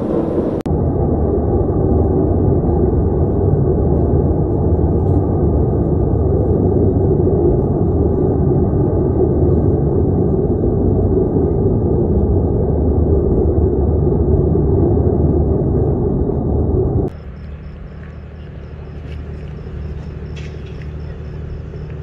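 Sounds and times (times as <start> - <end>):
fire burning with low rumble: 0.0 - 22.0.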